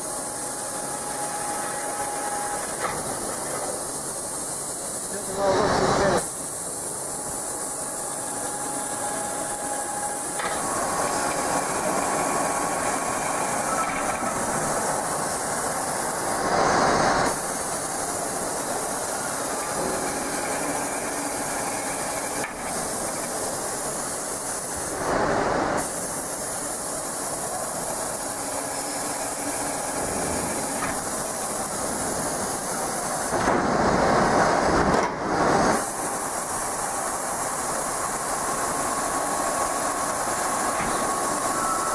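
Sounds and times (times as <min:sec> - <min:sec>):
drilling machine hissing: 0:00.0 - 0:33.4, 0:35.6 - 0:41.9.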